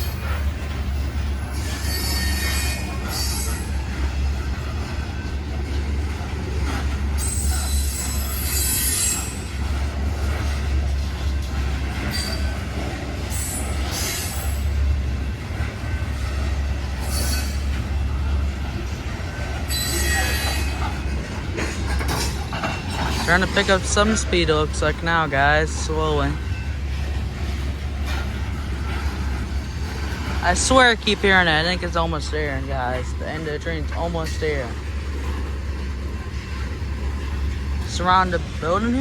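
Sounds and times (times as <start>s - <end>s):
steel wheels squealing on rail: 0.0s - 39.0s
train rumbling: 0.0s - 39.0s.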